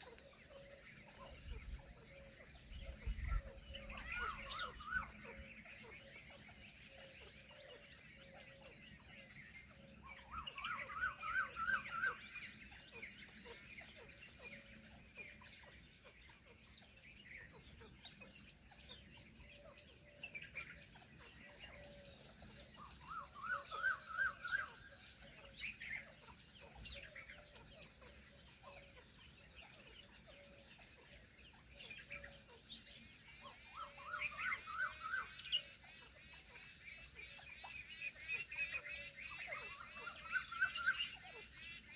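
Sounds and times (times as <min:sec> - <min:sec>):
faint bird chirps: 0:00.0 - 0:41.9.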